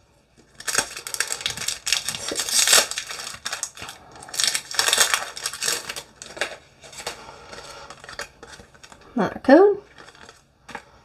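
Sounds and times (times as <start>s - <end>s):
foil wrapper crinkling: 0.4s - 9.1s, 9.8s - 11.0s.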